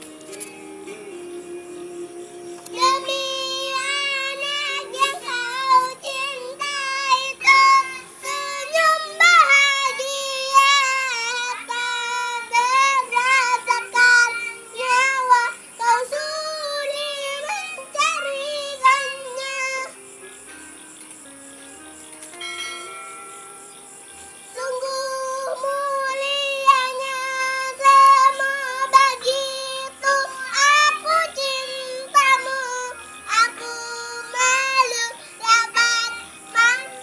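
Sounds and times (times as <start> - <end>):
girl singing: 0.0 - 20.1, 24.2 - 37.0
backing music track: 0.0 - 37.0.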